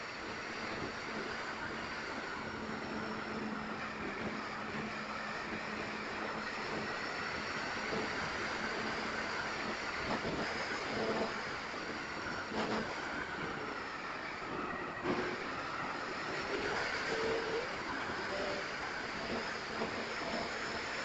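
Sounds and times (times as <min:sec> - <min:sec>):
electric motors and propellers whine: 0:00.0 - 0:21.0.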